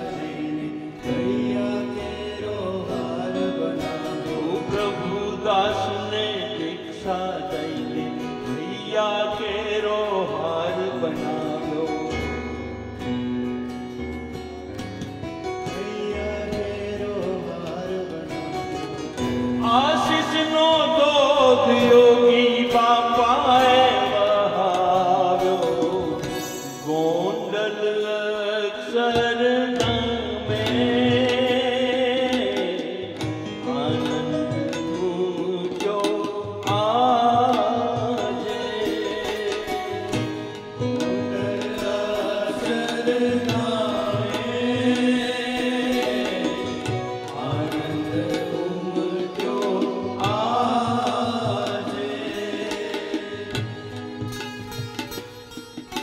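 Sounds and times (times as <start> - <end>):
person singing: 0.0 - 12.9, 15.4 - 55.2
instrumental accompaniment: 0.0 - 56.0.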